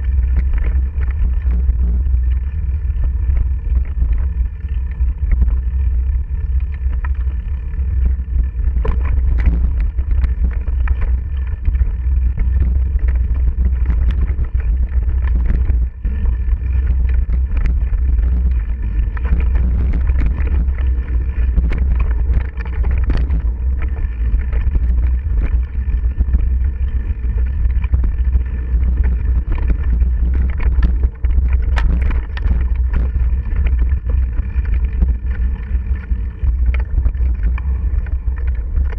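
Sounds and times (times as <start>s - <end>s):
bike rattles and knocks: 0.0s - 38.9s
wind and motion rumble: 0.0s - 38.9s.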